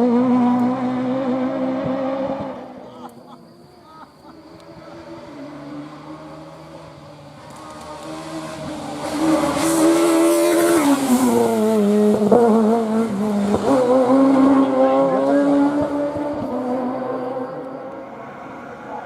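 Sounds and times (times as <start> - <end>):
rally car engine revving past: 0.0 - 2.8, 4.7 - 19.0.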